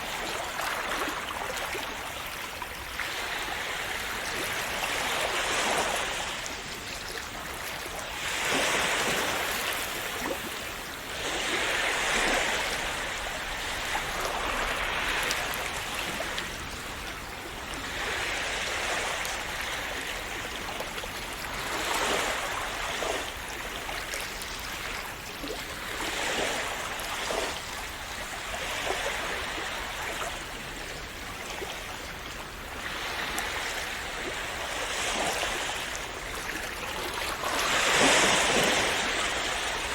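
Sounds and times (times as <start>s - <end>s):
small waves splashing on shore: 0.0s - 39.9s.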